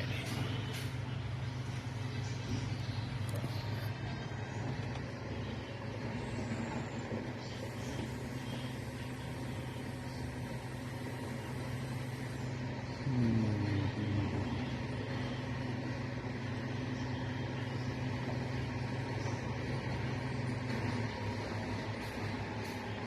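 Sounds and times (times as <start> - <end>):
diesel truck engine idling: 0.0 - 23.0
engine revving: 0.0 - 23.0.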